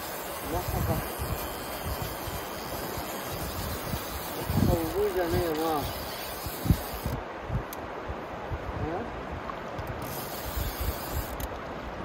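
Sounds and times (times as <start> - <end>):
river current rushing: 0.0 - 12.0
wind buffeting microphone: 0.0 - 12.0.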